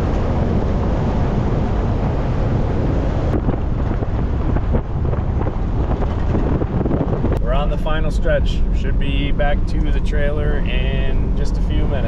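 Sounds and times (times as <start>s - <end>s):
vehicle driving rumble: 0.0s - 12.0s
wind buffeting microphone: 0.0s - 12.0s.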